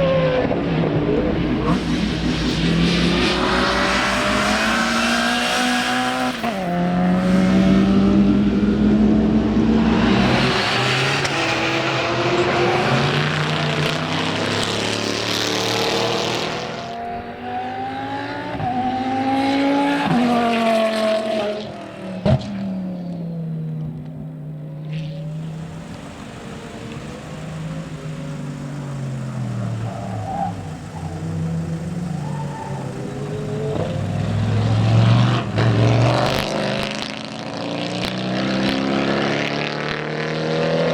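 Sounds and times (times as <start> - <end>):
racing car engines: 0.0 - 40.9.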